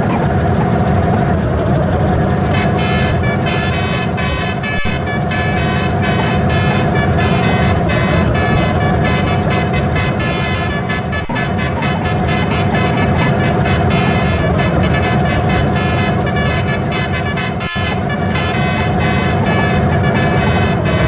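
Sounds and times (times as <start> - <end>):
steady low rumble: 0.0 - 21.0
multi-tone musical horn tune: 2.3 - 21.0.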